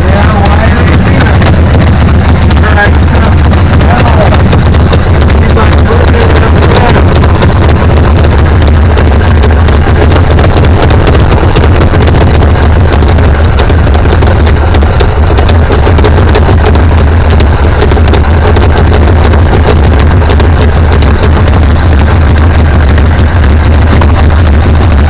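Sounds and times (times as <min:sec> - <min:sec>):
car engine deep rumble crackling: 0:00.0 - 0:25.0.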